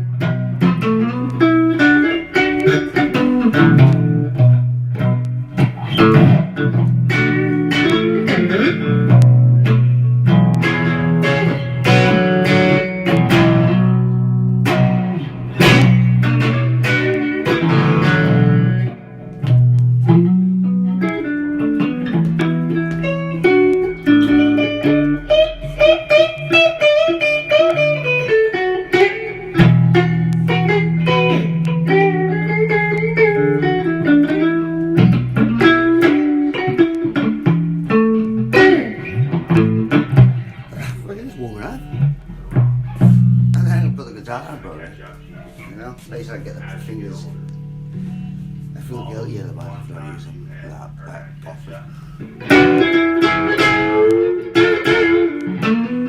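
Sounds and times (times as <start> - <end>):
electric guitar blues riff: 0.0 - 56.0.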